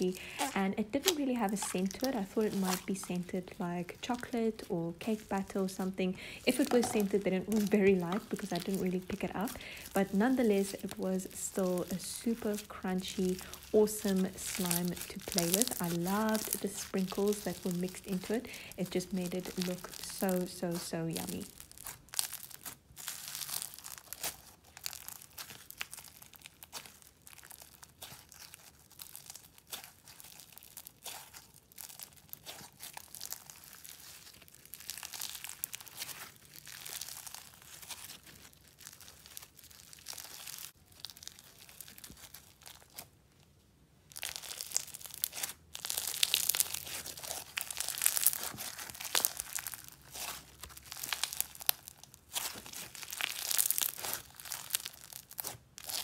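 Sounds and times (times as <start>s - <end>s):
crunchy slime squeezed by hand: 0.0s - 4.3s, 6.3s - 43.2s, 44.1s - 56.0s.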